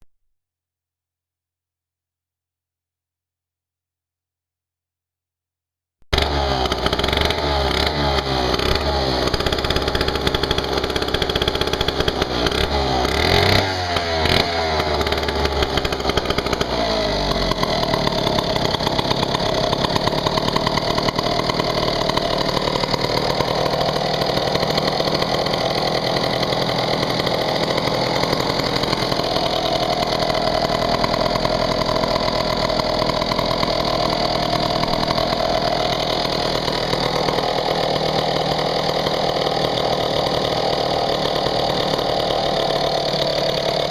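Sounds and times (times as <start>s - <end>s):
chainsaw engine revving and idling: 6.1s - 43.9s.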